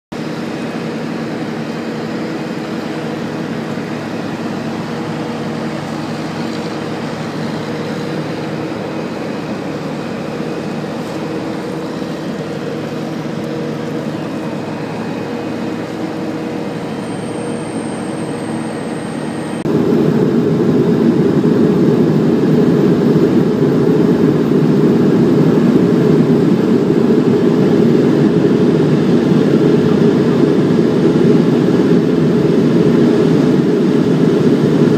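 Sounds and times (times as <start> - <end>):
turboprop cabin drone: 0.1 - 34.9.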